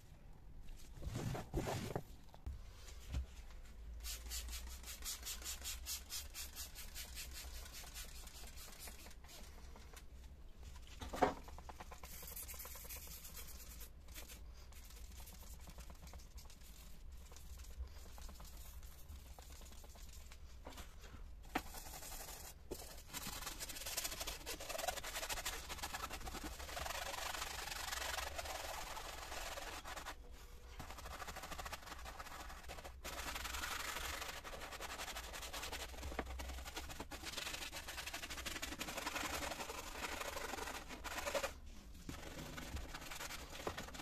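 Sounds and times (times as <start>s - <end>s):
rubbing on plastic: 4.0s - 21.0s, 21.6s - 44.0s.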